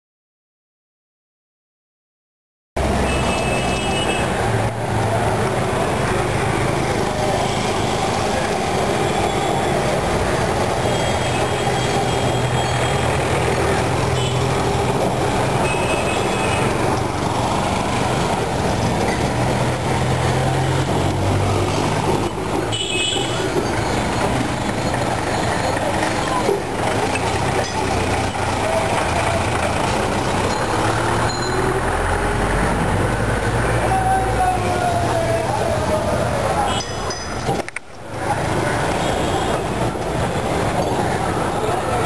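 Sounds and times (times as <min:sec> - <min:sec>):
tram wheels rumbling on rails: 0:02.8 - 0:42.0.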